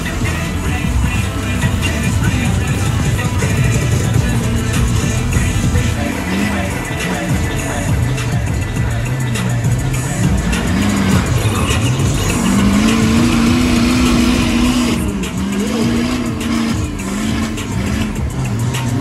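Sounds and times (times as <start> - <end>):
spinning tires hissing: 0.0 - 19.0
truck engine revving hard: 0.0 - 19.0.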